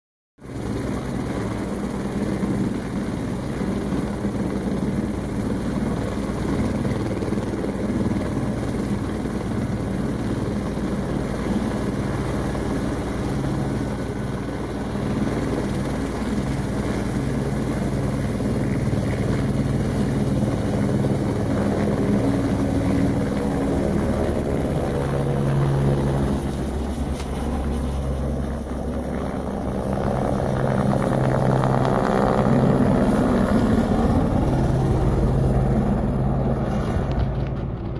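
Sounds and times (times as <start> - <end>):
helicopter rotor beating: 0.4 - 37.9.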